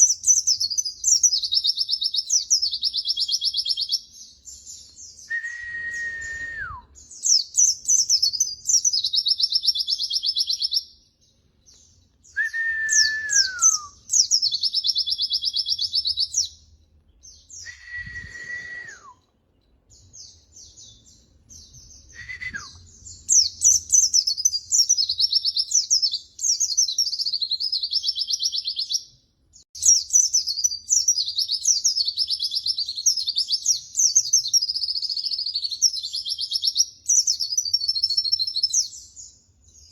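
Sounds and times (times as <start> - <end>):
low held bird whistle: 0.0 - 10.9, 12.2 - 16.6, 17.3 - 19.3, 20.6 - 29.1, 29.8 - 39.4
bird twittering and trilling: 0.0 - 18.7, 19.9 - 29.2, 29.8 - 39.9.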